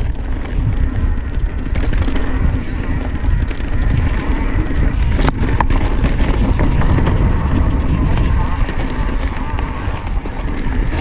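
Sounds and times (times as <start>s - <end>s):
bike rattling: 0.0s - 11.0s
tyres rumbling on dirt: 0.0s - 11.0s
wind buffeting microphone: 0.0s - 11.0s.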